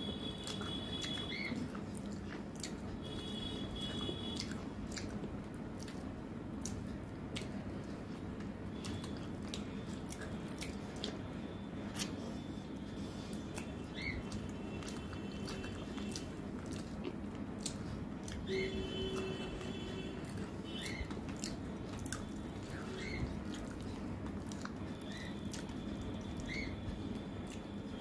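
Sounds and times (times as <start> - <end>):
soft chewing: 0.0 - 28.0.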